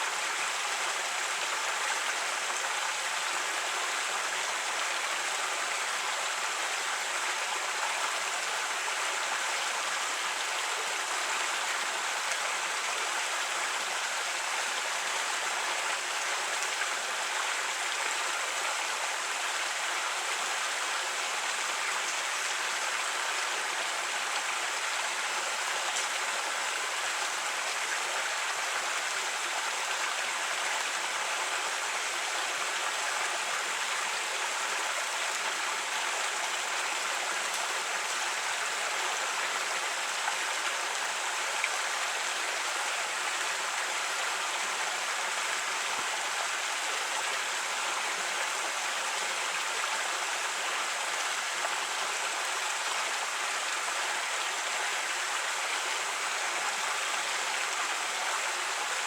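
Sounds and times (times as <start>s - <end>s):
creek babbling: 0.0s - 59.0s.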